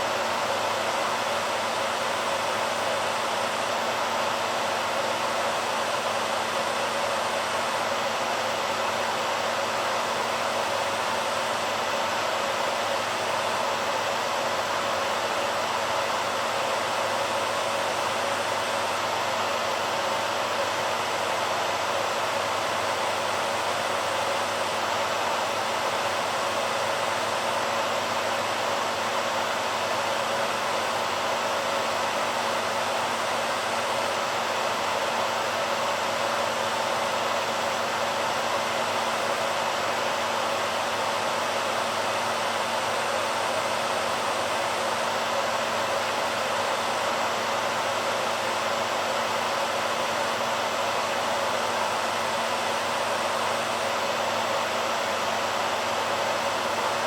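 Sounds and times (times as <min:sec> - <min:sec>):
hairdryer air rush: 0:00.0 - 0:57.0.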